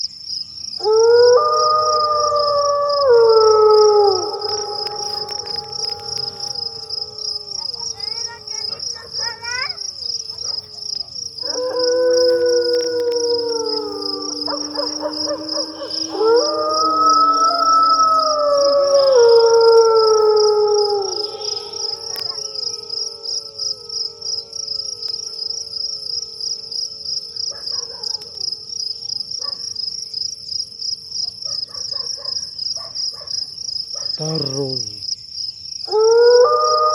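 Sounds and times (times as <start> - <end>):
crickets trilling: 0.0 - 36.9
canines howling: 0.8 - 29.8, 35.9 - 36.9.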